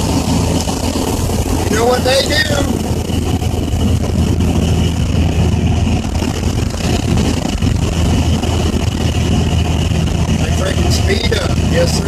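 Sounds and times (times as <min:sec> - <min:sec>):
diesel truck engine running: 0:00.0 - 0:12.0
road noise: 0:00.0 - 0:12.0.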